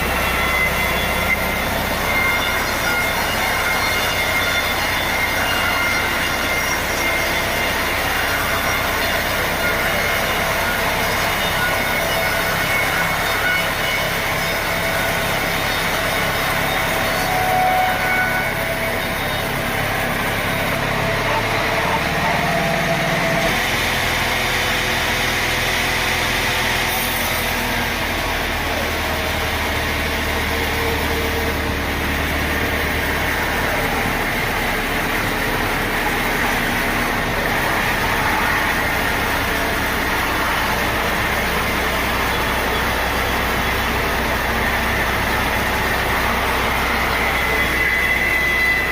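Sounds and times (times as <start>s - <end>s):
sawmill machinery drone: 0.0s - 48.9s.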